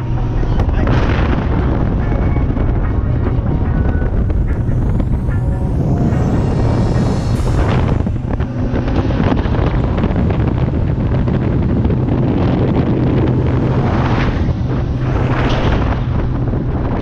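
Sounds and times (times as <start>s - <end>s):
powerboat engine drone: 0.0s - 17.0s
wind buffeting microphone: 0.0s - 17.0s.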